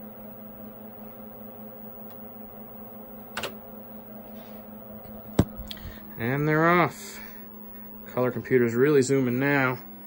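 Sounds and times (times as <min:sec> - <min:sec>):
computers humming: 0:00.0 - 0:10.0.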